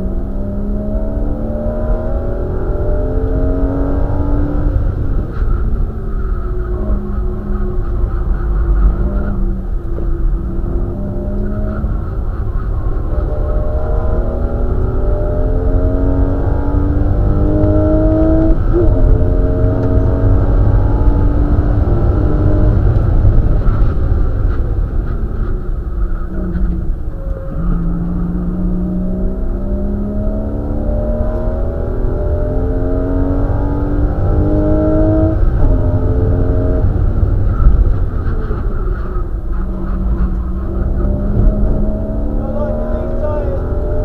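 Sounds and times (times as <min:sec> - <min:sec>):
car engine revving through gears: 0:00.0 - 0:44.0
road and wind noise: 0:00.0 - 0:44.0.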